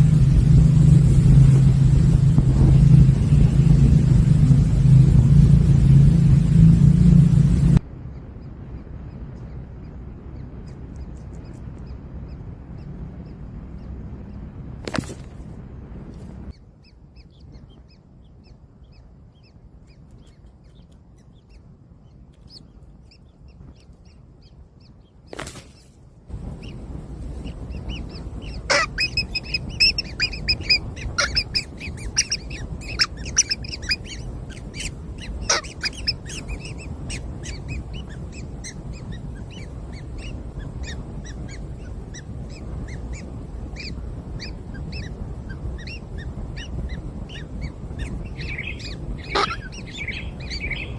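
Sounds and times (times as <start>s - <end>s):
nestling birds cheeping: 0.0s - 15.3s, 16.5s - 50.9s.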